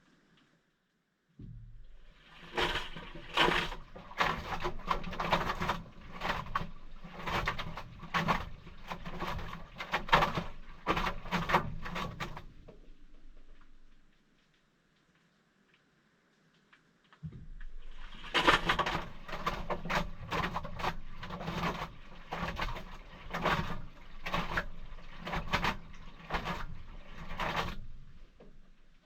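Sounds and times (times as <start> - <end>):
water churning and sloshing: 1.4 - 14.1, 17.4 - 29.0.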